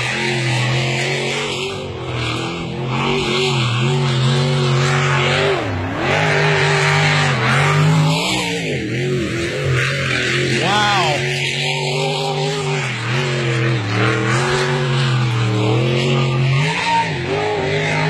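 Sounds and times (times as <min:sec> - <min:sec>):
powerboat engine at high revs: 0:00.0 - 0:18.0.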